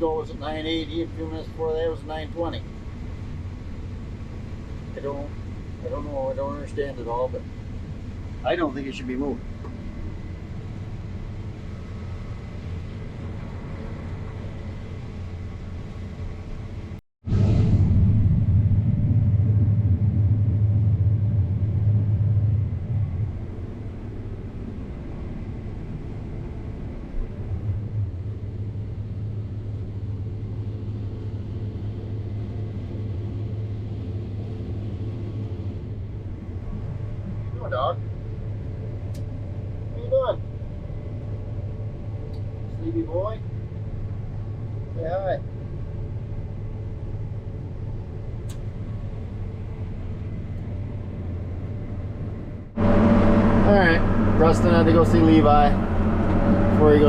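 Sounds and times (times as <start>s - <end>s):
farm machinery engine drone: 0.0s - 57.0s.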